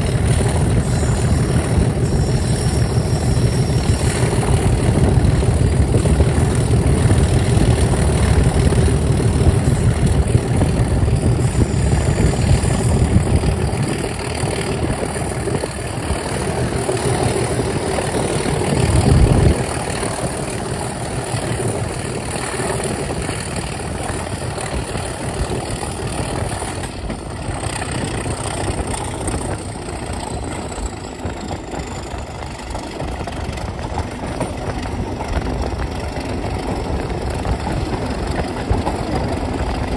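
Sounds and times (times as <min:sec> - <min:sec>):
diesel locomotive engine working hard: 0:00.0 - 0:39.9.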